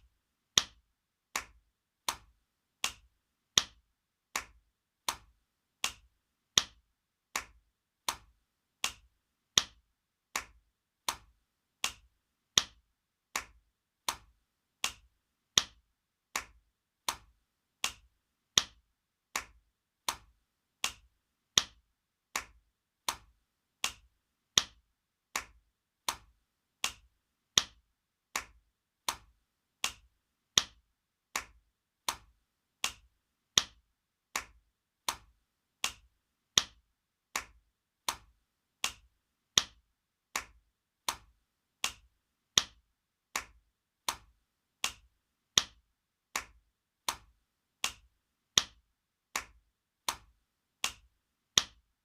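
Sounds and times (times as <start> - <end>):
hand slapping skin: 0.6 - 51.8.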